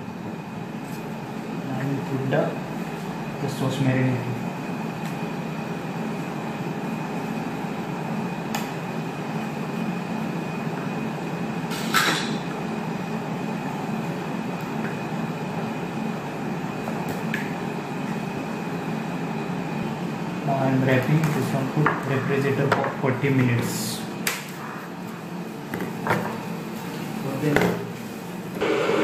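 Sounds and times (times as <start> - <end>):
machinery hum with high whine: 0.0 - 29.0.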